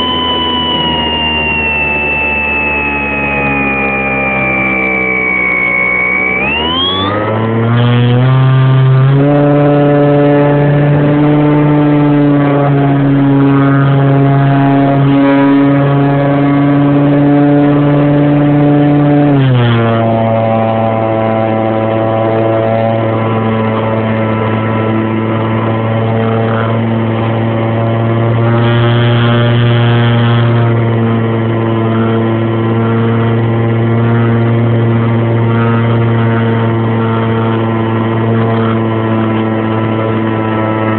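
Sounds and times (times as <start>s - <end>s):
model plane electric motor whine: 0.0s - 40.9s.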